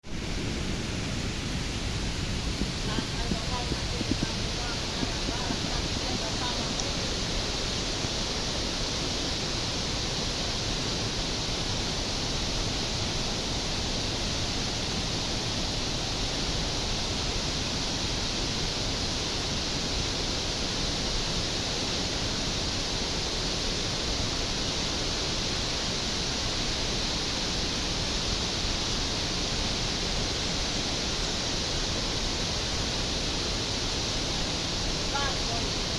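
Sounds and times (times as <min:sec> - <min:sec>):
steady rushing noise: 0:00.0 - 0:35.9.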